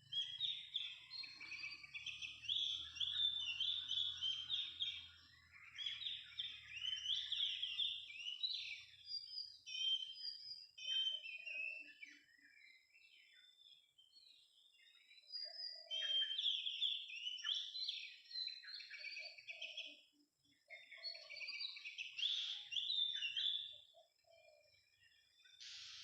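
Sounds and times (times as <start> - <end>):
bird song whistles and chatter: 0.0 - 26.0.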